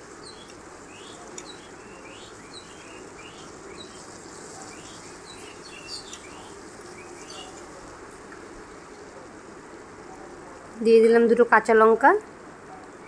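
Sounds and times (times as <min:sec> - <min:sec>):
paste frying in oil: 0:00.0 - 0:11.1.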